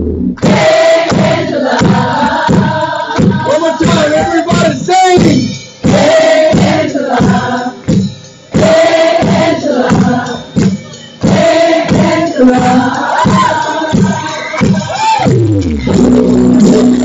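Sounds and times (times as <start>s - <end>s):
several voices singing: 0.4s - 4.8s, 5.8s - 7.9s, 8.5s - 15.3s, 15.9s - 17.0s
live band playing: 1.2s - 17.0s.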